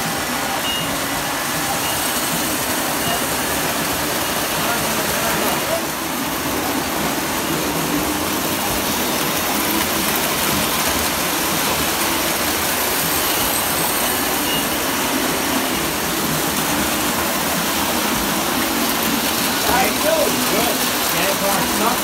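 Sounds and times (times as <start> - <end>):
electric model train running: 0.0 - 22.0.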